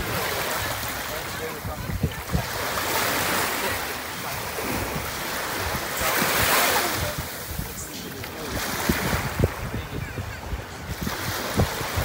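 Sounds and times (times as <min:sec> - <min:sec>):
sea water splashing at shore: 0:00.0 - 0:09.7
wind buffeting microphone: 0:00.0 - 0:12.0.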